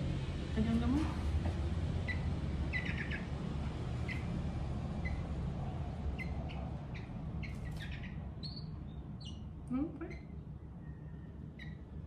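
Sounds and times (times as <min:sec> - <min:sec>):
small birds chirping: 0:01.9 - 0:12.0.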